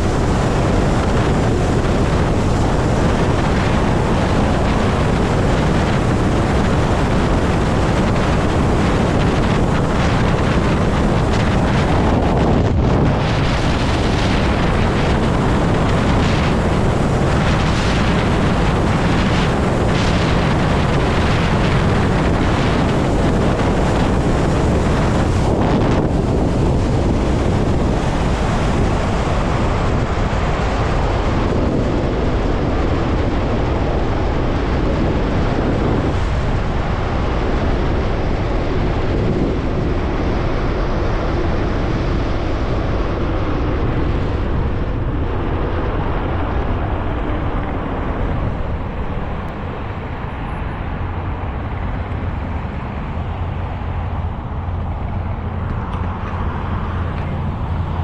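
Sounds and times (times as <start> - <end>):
tyre and road noise: 0.0 - 58.0
wind rushing over microphone: 0.0 - 58.0.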